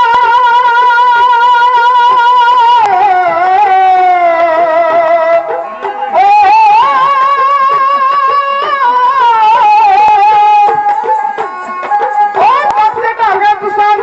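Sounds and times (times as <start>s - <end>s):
man singing into microphone: 0.0s - 14.0s
bowed string instrument: 2.7s - 14.0s.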